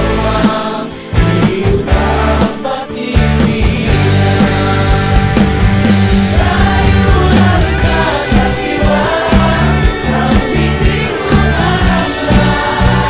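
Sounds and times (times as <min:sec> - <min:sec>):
song with vocals and beat: 0:00.0 - 0:13.0.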